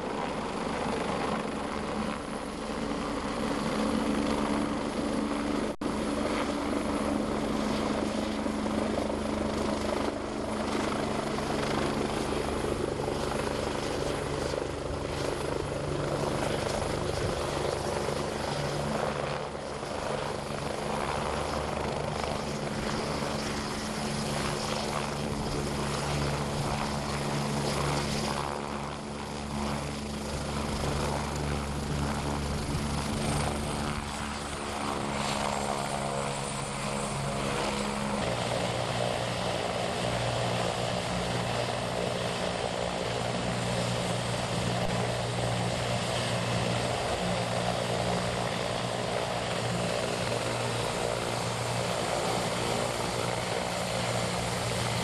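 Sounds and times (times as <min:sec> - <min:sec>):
helicopter turbine and rotor drone: 0:00.0 - 0:55.0.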